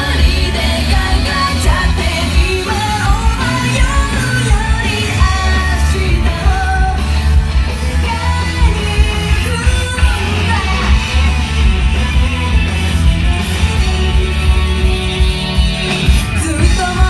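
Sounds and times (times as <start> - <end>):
bass and drum beat: 0.0 - 17.0
rock song with singer: 0.0 - 17.0.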